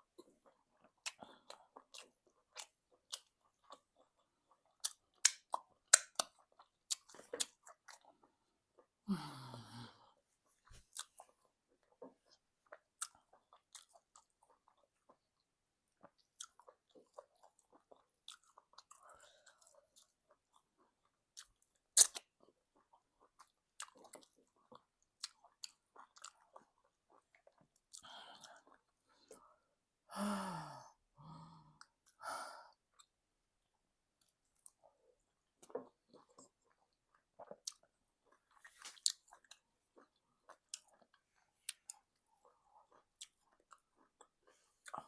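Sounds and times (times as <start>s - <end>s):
wet chewing sounds: 0.0s - 9.0s, 10.7s - 29.5s, 34.2s - 45.0s.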